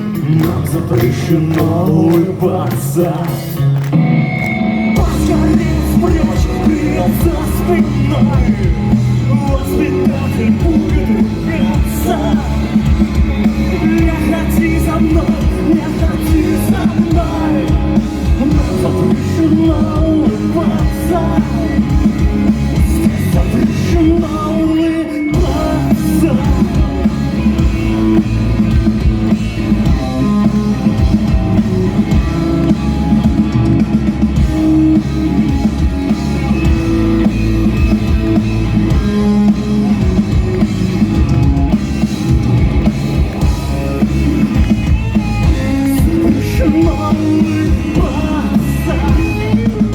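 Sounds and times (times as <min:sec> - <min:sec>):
drum kit: 0:00.0 - 0:49.9
electric guitars: 0:00.0 - 0:49.9.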